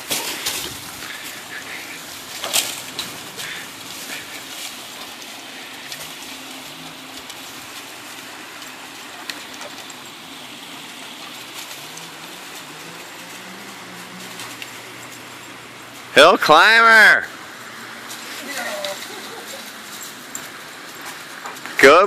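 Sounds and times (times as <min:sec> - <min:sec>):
creek flowing over rocks: 0:00.0 - 0:18.5.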